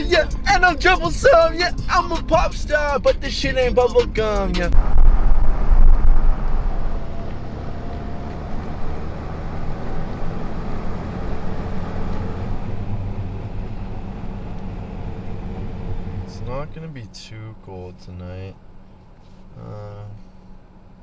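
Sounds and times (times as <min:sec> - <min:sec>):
road rumble: 0:00.0 - 0:21.0
truck engine: 0:00.0 - 0:21.0.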